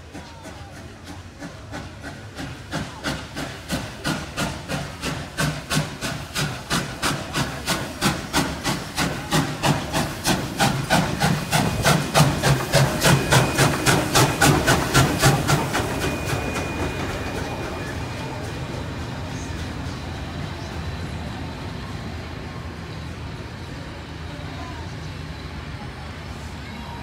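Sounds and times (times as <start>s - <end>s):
steam locomotive exhaust chuffing: 0.0s - 26.6s.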